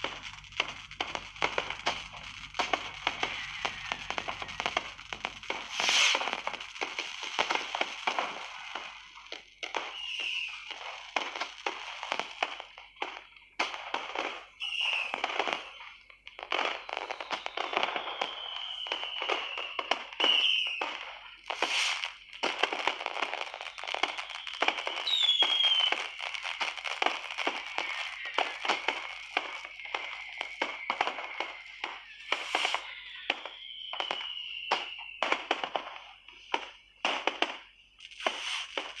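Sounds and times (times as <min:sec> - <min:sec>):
long falling whistle: 0:00.0 - 0:12.8, 0:14.4 - 0:39.0
firework whistles: 0:00.0 - 0:39.0
fireworks crackling and banging: 0:00.0 - 0:39.0.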